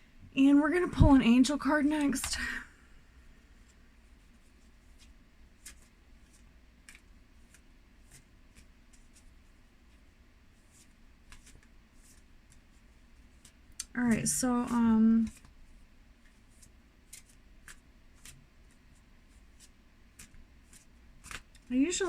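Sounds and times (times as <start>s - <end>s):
cards being shuffled: 3.6s - 10.0s, 10.6s - 22.0s.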